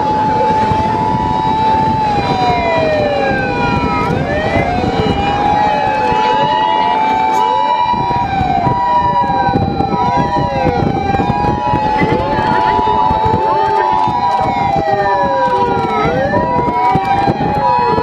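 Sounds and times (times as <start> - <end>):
ambulance two-tone siren: 0.0 - 18.0
fire engine sirens wailing: 0.0 - 18.0
vehicle engines rumbling: 0.0 - 18.0.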